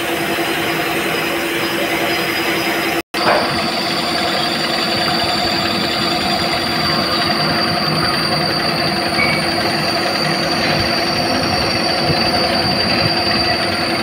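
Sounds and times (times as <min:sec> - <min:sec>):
machinery whining: 0:00.0 - 0:14.0.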